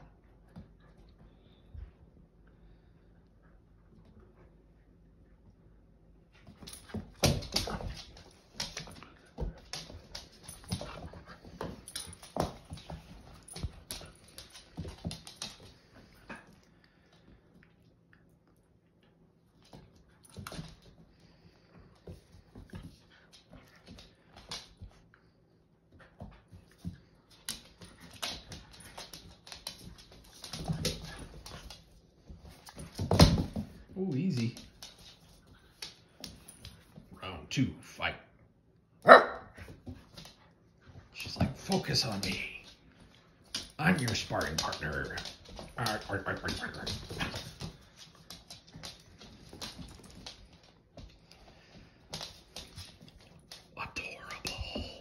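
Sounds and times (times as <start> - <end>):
dog paws and claws scuffling: 6.3 - 37.3, 39.6 - 55.0.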